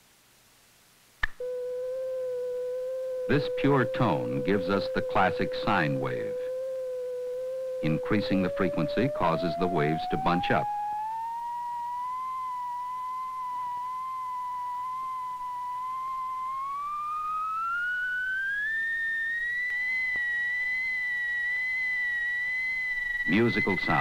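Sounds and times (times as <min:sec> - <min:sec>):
sine-wave test tone: 0:01.2 - 0:24.0.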